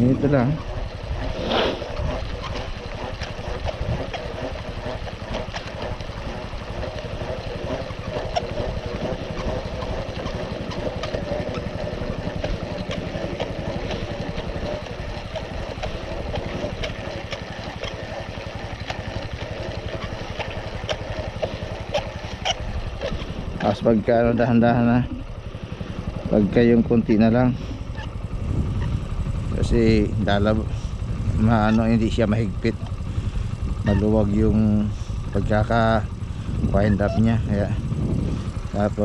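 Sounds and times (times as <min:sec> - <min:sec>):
motorbike engine idling: 0:00.0 - 0:39.0.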